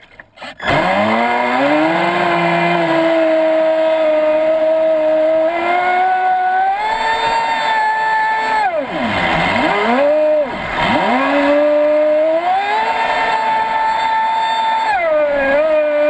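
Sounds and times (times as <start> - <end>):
electric motor whining: 0.6 - 16.0.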